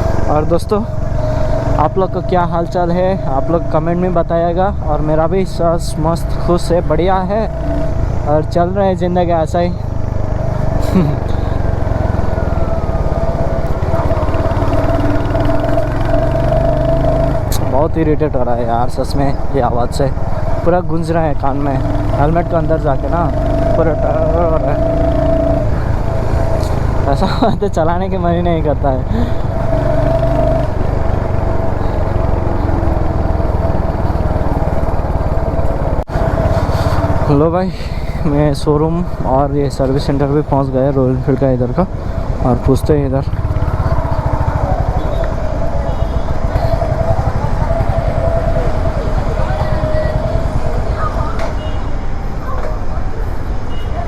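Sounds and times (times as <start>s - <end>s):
engine rattle: 0.0s - 51.7s
motorcycle engine running: 0.0s - 52.4s
engine whine: 0.0s - 53.8s.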